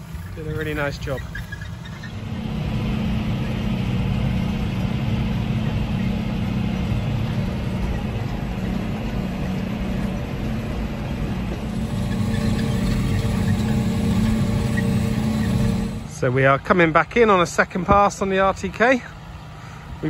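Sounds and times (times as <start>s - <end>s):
tractor engine drone: 0.0s - 20.0s.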